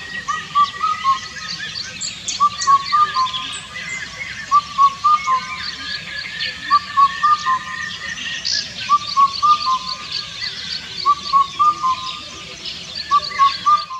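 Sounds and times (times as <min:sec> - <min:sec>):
cuckoo whistled song: 0:00.0 - 0:13.9
small birds chirping: 0:00.0 - 0:13.9.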